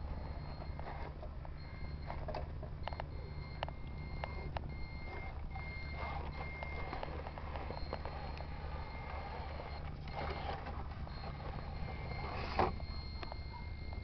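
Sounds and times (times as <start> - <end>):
model truck low hum: 0.0 - 14.0
reversing beeper: 0.0 - 14.0.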